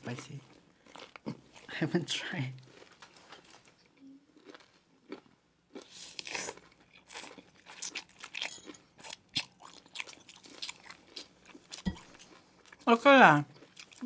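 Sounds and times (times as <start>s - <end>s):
crunching and chewing food: 0.0s - 14.0s.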